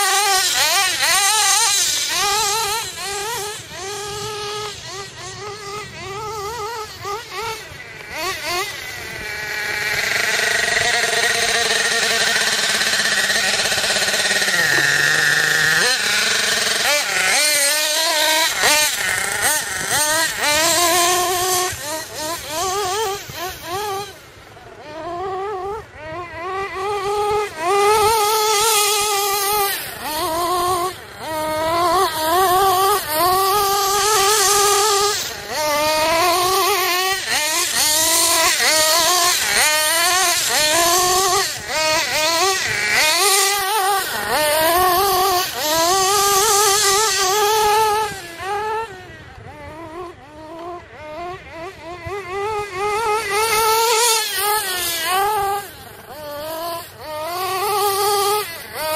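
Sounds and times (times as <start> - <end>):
model car engine revving: 0.0 - 58.9.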